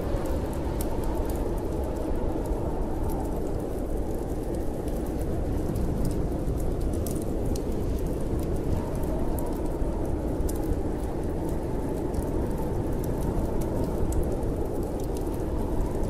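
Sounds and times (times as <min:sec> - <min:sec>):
low rumble of storm wind: 0:00.0 - 0:16.0
wood fire crackling: 0:00.0 - 0:16.0.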